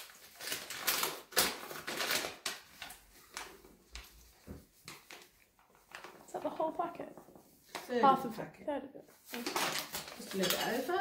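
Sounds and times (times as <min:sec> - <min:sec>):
paper bag rustling: 0:00.0 - 0:08.4, 0:09.1 - 0:11.0.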